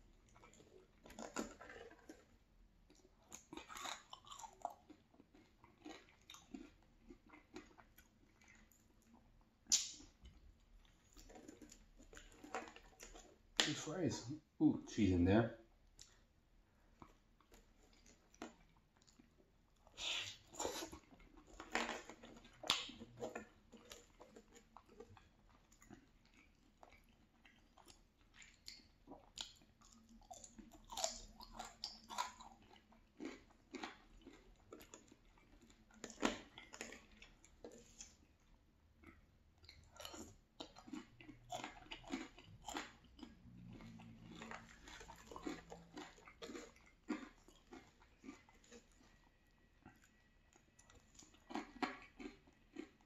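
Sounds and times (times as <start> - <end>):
close chewing with mouth clicks: 0.0 - 14.0, 15.8 - 53.0.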